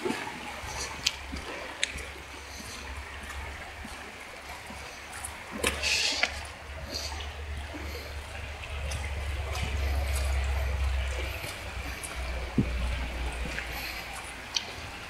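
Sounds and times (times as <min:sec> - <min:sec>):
stream flowing over rocks: 0:00.0 - 0:15.0.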